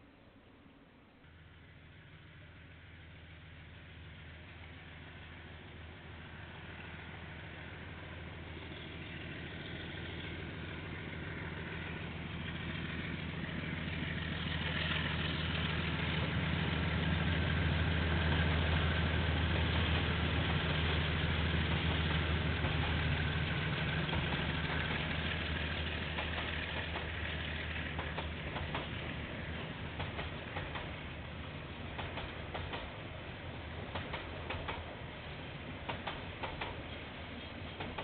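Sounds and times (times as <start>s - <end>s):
diesel locomotive engine drone: 0.0s - 38.0s
train rolling rumble: 0.0s - 38.0s.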